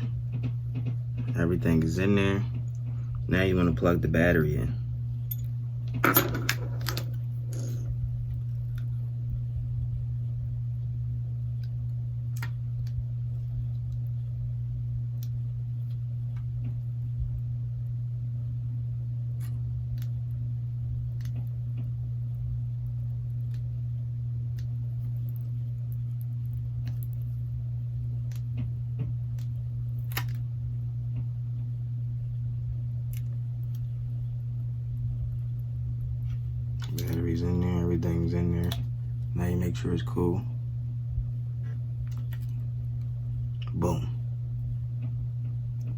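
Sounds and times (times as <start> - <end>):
low electrical hum: 0.0 - 45.9.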